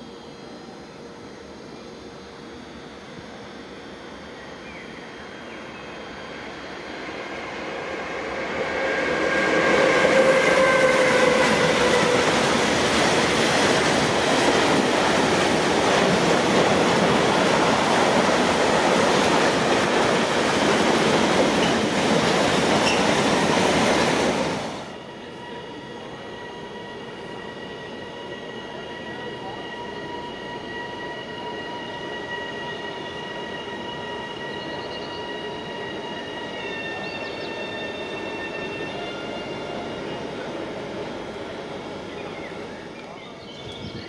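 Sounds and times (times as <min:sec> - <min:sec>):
train passing: 0:00.0 - 0:44.0.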